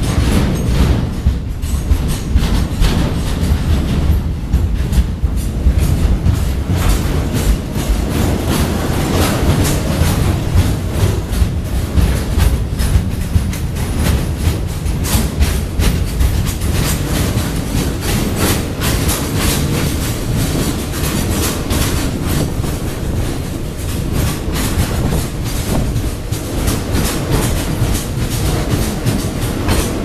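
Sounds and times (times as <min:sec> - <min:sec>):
freight train rumble: 0:00.0 - 0:30.0
train wheels clacking over rail joints: 0:00.0 - 0:30.0.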